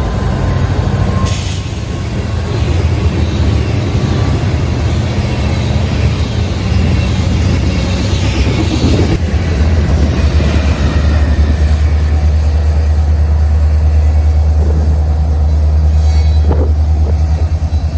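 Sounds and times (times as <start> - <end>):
diesel locomotive rumbling: 0.0 - 17.9.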